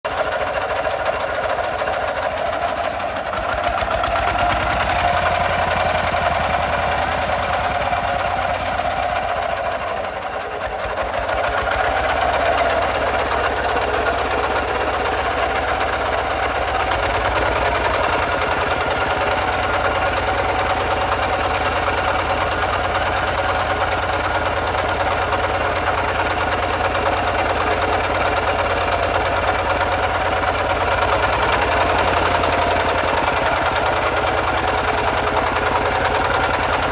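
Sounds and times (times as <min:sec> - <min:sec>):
diesel engine chugging: 0:00.1 - 0:36.9.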